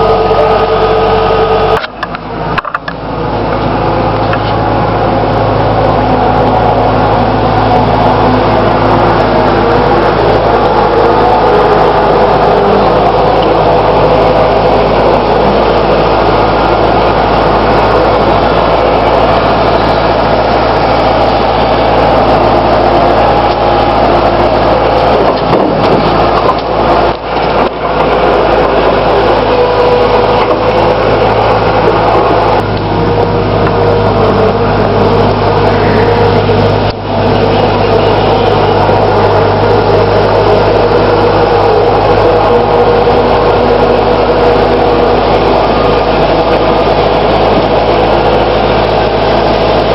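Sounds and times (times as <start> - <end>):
skid steer engine running: 0.0 - 49.9.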